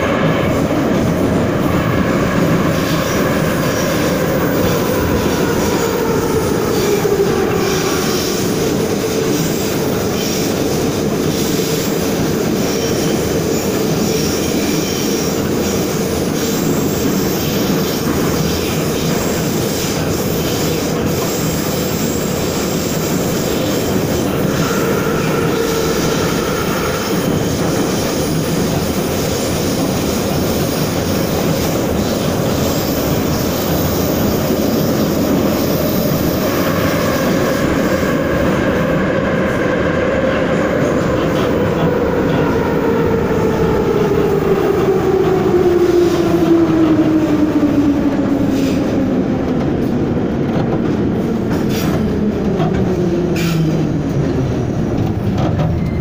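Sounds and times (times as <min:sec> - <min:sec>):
metro train rumble and wheel noise: 0:00.0 - 0:56.0.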